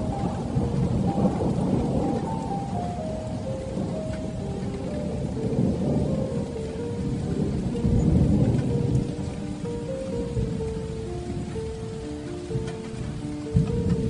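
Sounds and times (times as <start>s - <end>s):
heavy rain on a metal roof: 0.0s - 14.0s
low thunder rumble: 0.0s - 14.0s
slow melody of held notes: 0.0s - 14.0s.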